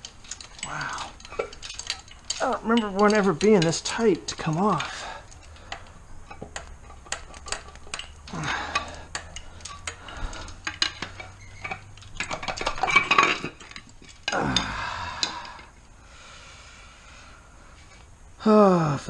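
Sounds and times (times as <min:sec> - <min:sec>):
metal clinks knocks and scrapes: 0:00.0 - 0:15.8.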